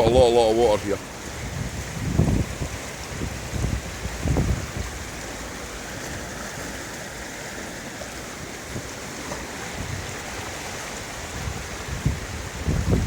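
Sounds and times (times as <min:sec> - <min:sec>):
floodwater rushing: 0:00.0 - 0:13.0
wind buffets on microphone: 0:00.0 - 0:13.0.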